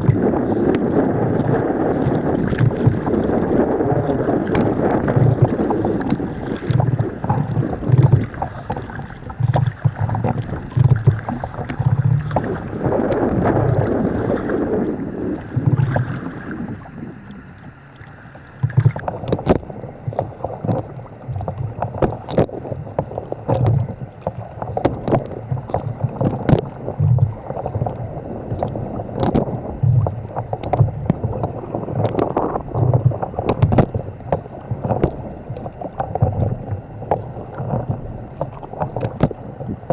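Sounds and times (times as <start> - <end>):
paddle drips and splashes: 0.0 - 39.9
water slapping against hull: 0.0 - 39.9.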